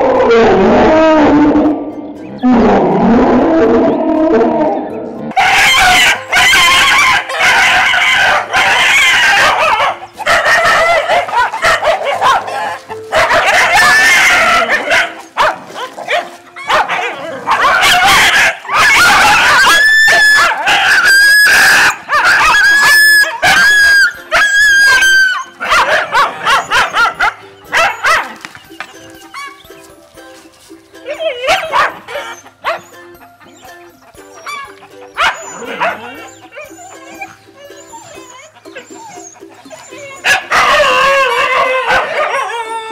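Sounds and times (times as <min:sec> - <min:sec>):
dog barking and howling: 0:00.0 - 0:28.5, 0:29.2 - 0:29.8, 0:31.0 - 0:42.9
background music: 0:00.0 - 0:42.9
high drawn-out dog cries: 0:05.3 - 0:28.6, 0:29.2 - 0:29.8, 0:31.1 - 0:42.9.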